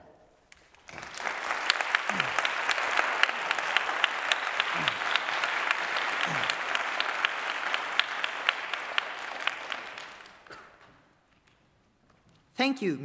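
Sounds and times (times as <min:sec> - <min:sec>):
audience applauding: 0:00.5 - 0:11.1.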